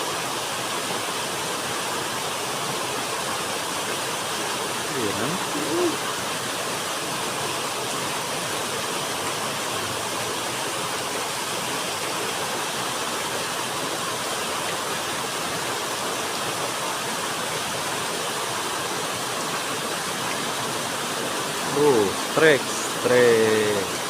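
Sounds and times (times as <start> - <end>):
water rushing at a dam: 0.0 - 24.0.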